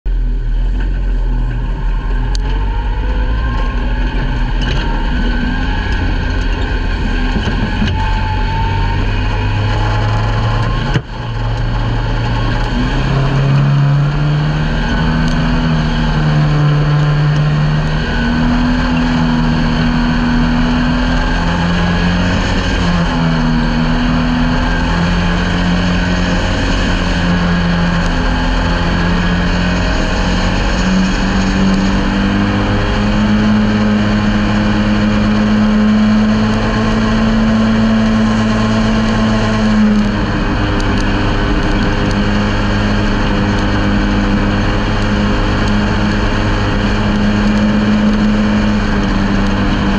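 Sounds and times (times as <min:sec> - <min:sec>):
race car engine revving: 0:00.1 - 0:49.9.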